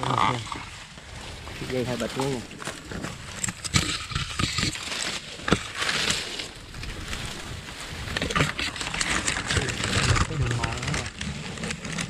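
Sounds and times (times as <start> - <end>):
leaves and twigs rustling: 0.0 - 12.0
twigs snapping: 2.0 - 12.0.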